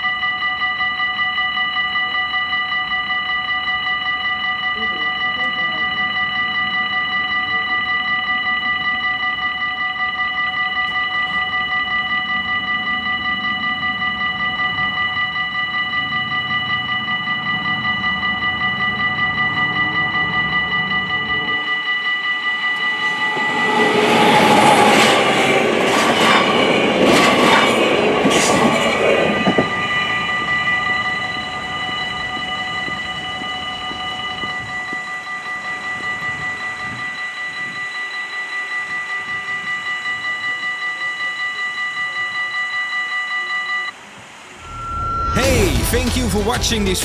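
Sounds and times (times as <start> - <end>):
level crossing warning bells: 0.0 - 47.0.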